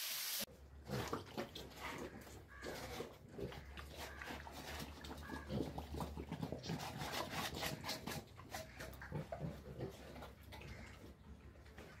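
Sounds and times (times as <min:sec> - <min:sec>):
pig eating wet feed: 0:00.5 - 0:12.0
pig grunting: 0:00.8 - 0:12.0.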